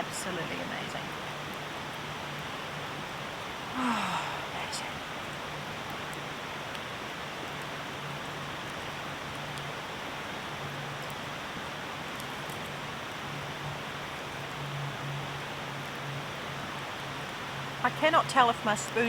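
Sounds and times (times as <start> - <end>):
campfire crackling: 0.0 - 19.0
rain falling: 0.0 - 19.0.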